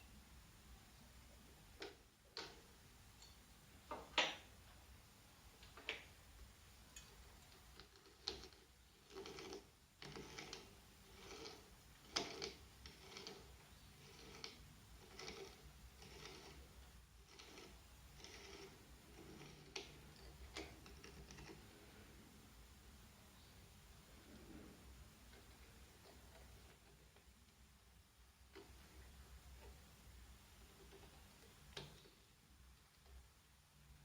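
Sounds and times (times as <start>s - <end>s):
faint clicks and knocks: 1.3s - 4.8s, 5.6s - 22.2s, 24.1s - 34.0s.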